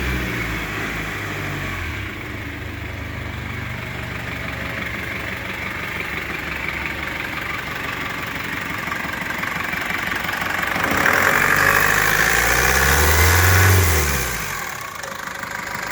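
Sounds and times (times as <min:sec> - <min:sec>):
diesel engine idling and revving: 0:00.0 - 0:15.9.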